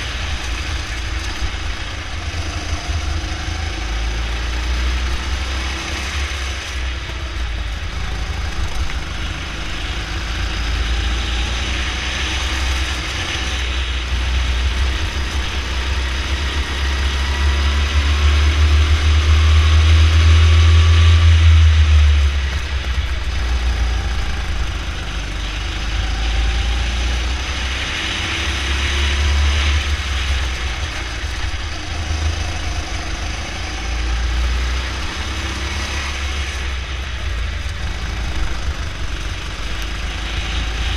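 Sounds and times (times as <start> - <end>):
go-kart engine rumbling: 0.0 - 40.9.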